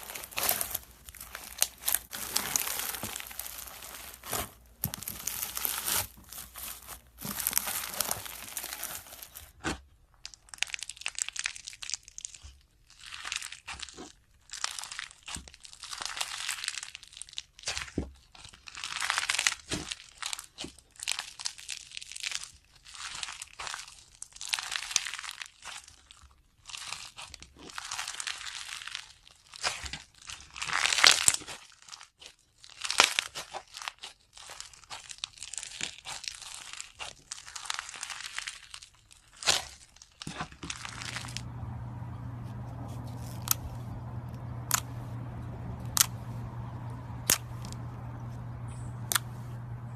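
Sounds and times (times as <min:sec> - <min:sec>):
slime crackling and crunching: 0:00.0 - 0:49.9.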